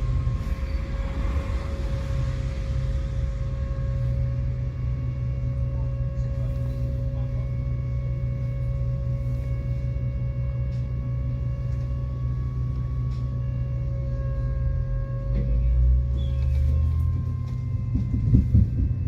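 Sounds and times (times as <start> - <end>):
steady tonal hum: 0.0 - 19.0
tram rumbling: 0.0 - 19.0.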